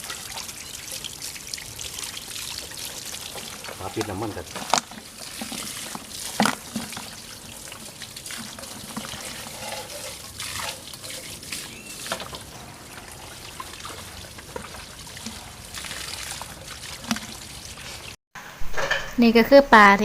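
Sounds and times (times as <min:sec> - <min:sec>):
water trickling and splashing: 0:00.0 - 0:18.2.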